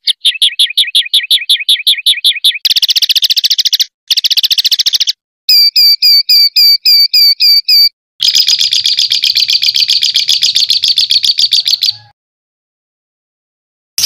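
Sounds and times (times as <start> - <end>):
songbird singing rattling trill: 0.0 - 12.1.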